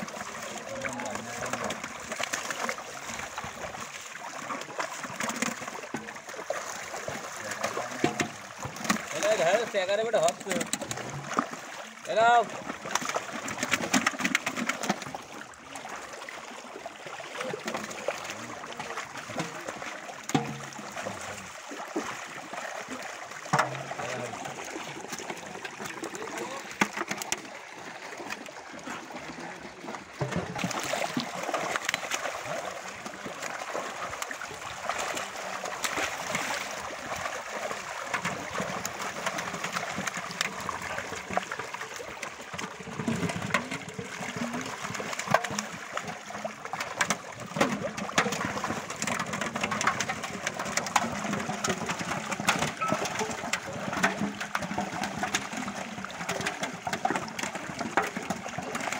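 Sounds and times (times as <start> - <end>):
fish thrashing in water: 0.0 - 58.9
water splashing and trickling: 0.0 - 58.9.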